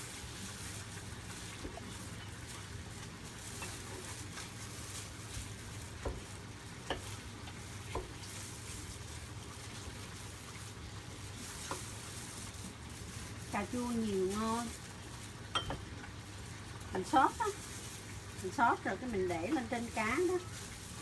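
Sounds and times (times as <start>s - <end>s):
fish sizzling in oil: 0.0s - 21.0s.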